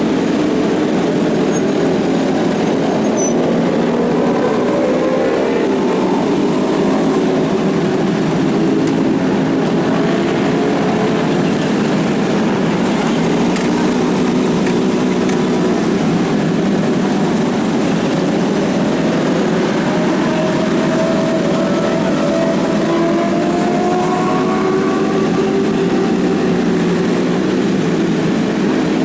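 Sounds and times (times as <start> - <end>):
car engines running: 0.0 - 29.0
superbike engine running: 0.0 - 29.0.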